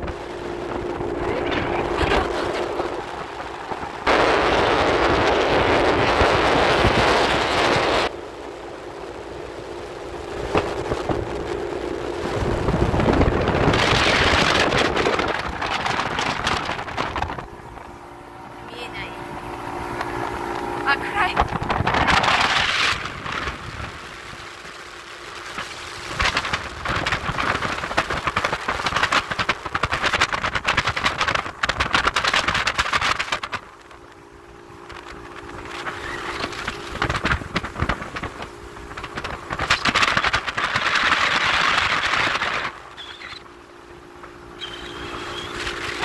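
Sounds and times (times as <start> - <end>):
wind buffeting microphone: 0.0 - 8.2, 8.9 - 46.0
boat engine drone: 0.0 - 46.0.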